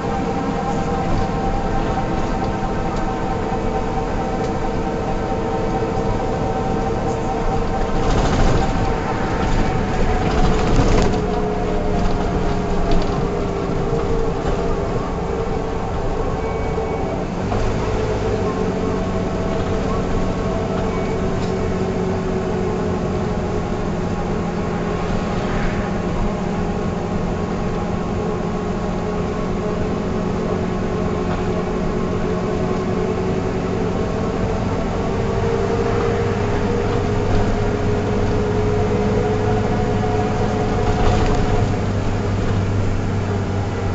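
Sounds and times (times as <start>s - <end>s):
bus engine whining: 0.0s - 43.9s.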